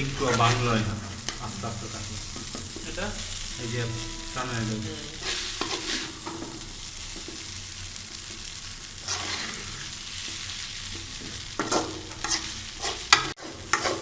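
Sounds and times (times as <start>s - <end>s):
spoon scraping pan: 0.0s - 7.4s, 8.9s - 14.0s
noodles sizzling in oil: 0.0s - 14.0s.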